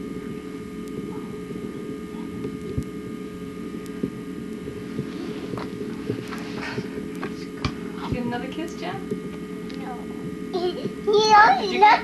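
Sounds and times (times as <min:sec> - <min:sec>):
camcorder hum: 0:00.0 - 0:12.0.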